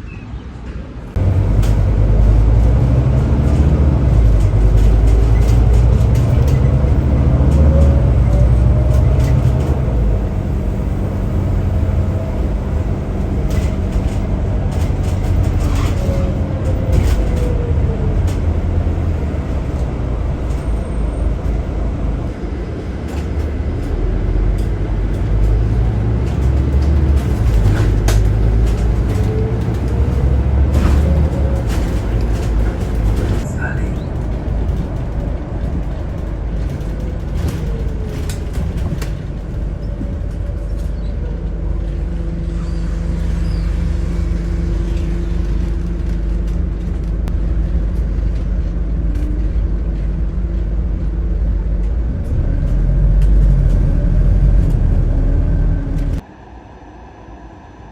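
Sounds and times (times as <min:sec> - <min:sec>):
bus diesel engine rumble: 0:00.0 - 0:57.9
rattles and clicks: 0:01.2 - 0:56.2.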